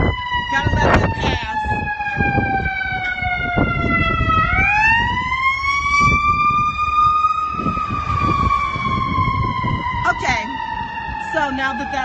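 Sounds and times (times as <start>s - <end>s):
siren wailing: 0.0s - 12.0s
street traffic rumble: 0.0s - 12.0s.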